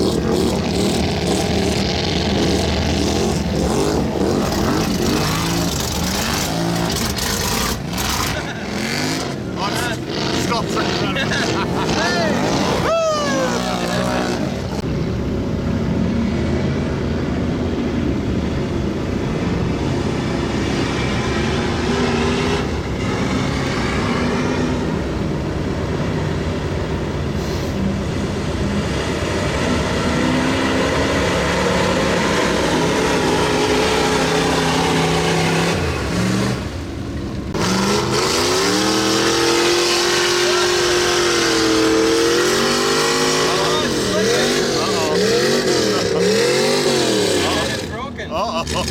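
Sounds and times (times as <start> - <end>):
truck engine revving under load: 0.0 - 48.9.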